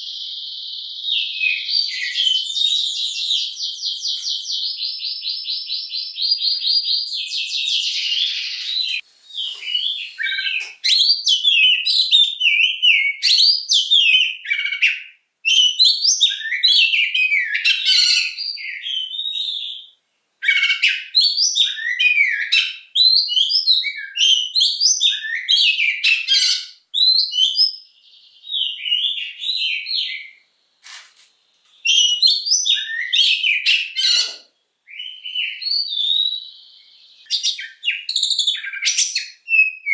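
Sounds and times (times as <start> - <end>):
bird singing varied song: 0.0 - 30.8, 31.4 - 39.9.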